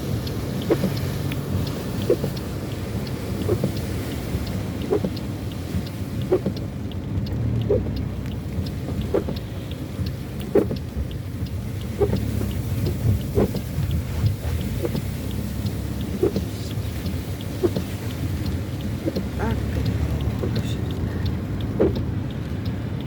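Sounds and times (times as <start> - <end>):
car engine rumble: 0.0 - 23.0.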